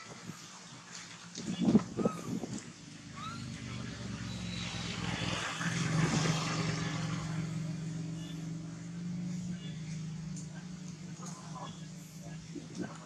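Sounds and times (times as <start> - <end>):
vehicle engine passing: 1.2 - 13.0.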